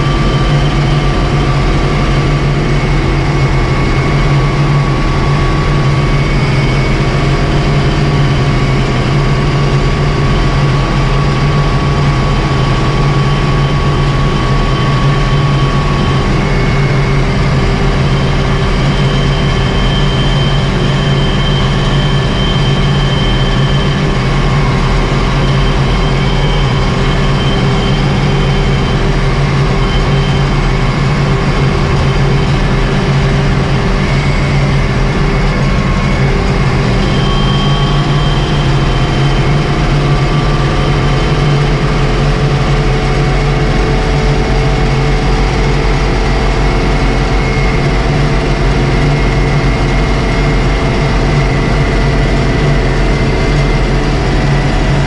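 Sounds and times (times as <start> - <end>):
tractor diesel engine from cab: 0.0 - 55.0.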